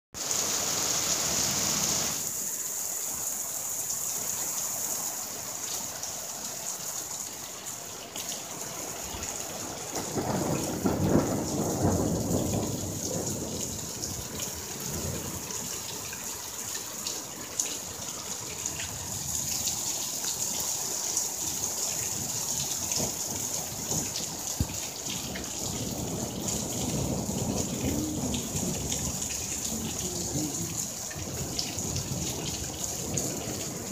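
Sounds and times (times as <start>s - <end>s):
heavy rain on a roof: 0.1s - 33.9s.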